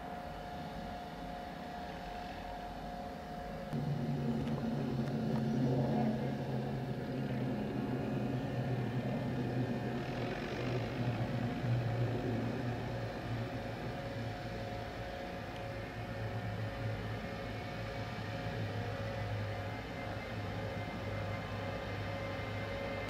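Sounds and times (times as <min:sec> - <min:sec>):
electric locomotive humming: 0:00.0 - 0:23.0
high steady whine: 0:00.0 - 0:23.0.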